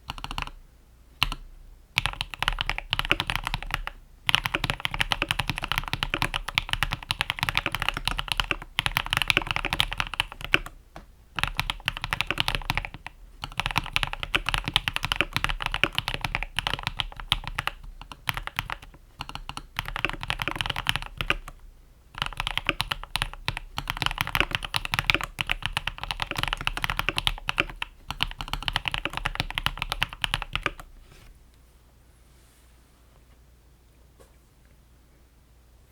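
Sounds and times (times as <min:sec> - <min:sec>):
fast typing on mechanical keyboard: 0:00.0 - 0:00.6, 0:02.0 - 0:21.6, 0:22.2 - 0:30.9.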